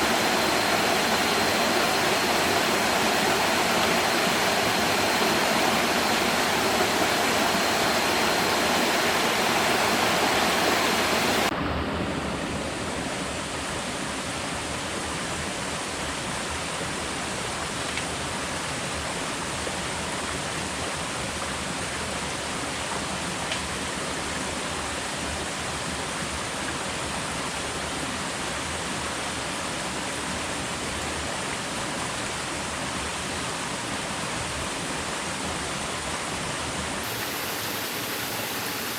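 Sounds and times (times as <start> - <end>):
rushing water hiss: 0.0 - 38.9.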